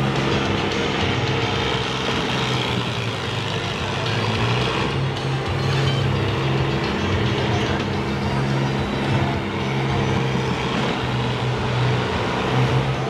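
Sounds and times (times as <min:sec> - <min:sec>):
harvester engines idling: 0:00.0 - 0:13.0.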